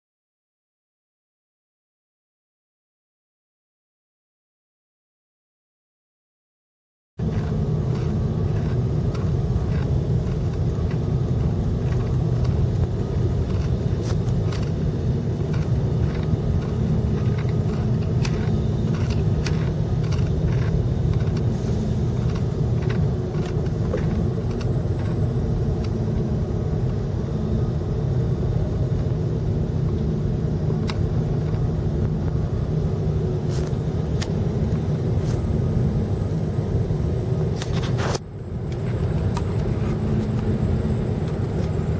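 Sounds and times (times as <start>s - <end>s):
vehicle engine rumble: 7.2s - 41.9s.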